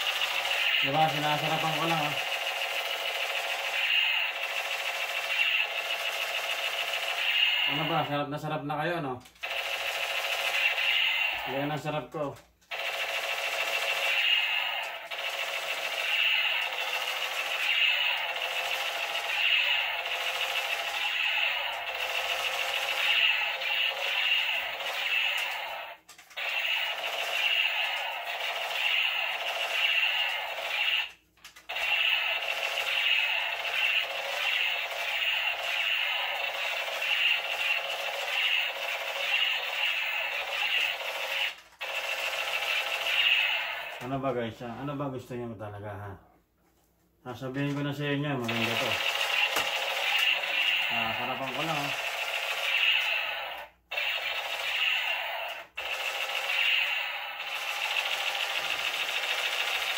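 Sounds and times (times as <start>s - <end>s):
toy gun electronic firing sound: 0.0s - 8.6s, 9.3s - 44.2s, 48.4s - 59.9s.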